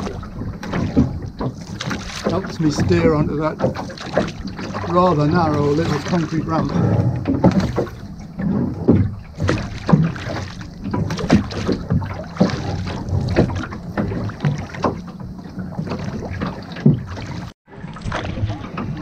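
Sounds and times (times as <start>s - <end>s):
oar strokes splashing: 0.0s - 19.0s
oars knocking in metal rowlocks: 0.0s - 19.0s
water noise: 0.0s - 19.0s
wind noise: 0.0s - 19.0s.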